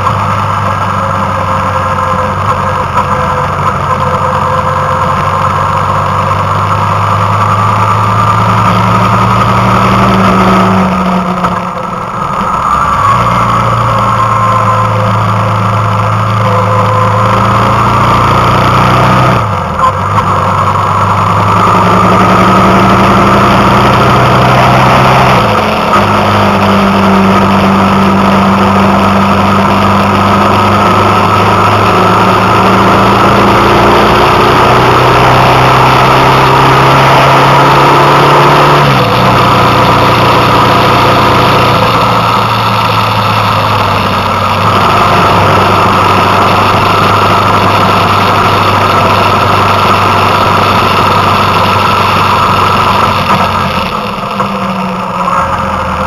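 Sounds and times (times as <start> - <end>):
road noise: 0.0 - 56.0
vehicle engine running: 0.0 - 56.0.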